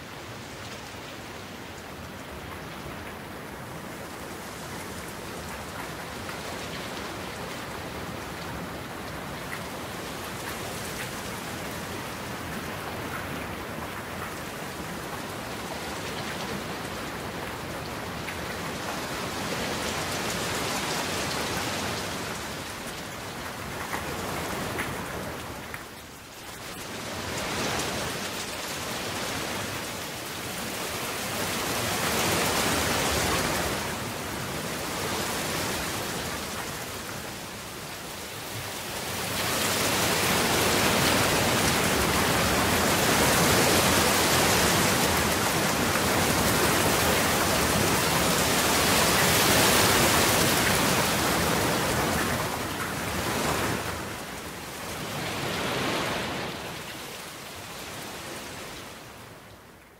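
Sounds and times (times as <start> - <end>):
heavy rain falling: 0.0 - 59.2.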